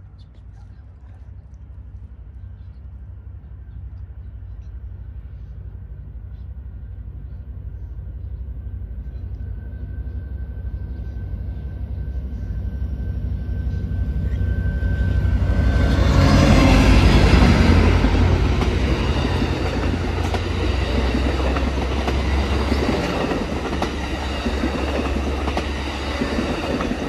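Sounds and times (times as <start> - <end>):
diesel locomotive engine rumble: 0.0 - 27.0.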